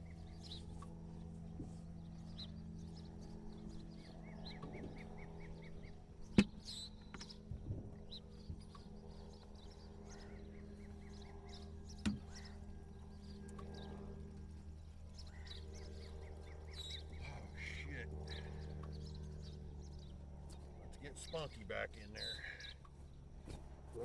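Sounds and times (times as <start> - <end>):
engine idling: 0.0 - 24.0
small birds chirping: 0.0 - 24.0.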